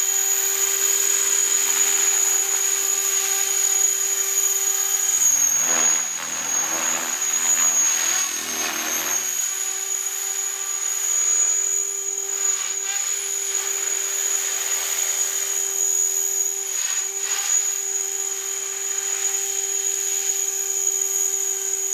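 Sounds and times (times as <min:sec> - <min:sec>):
remote-control helicopter whining: 0:00.0 - 0:21.9.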